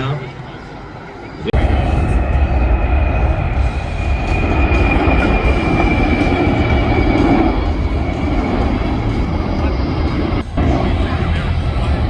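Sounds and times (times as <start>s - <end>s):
jet roar flying past: 0.0s - 12.0s.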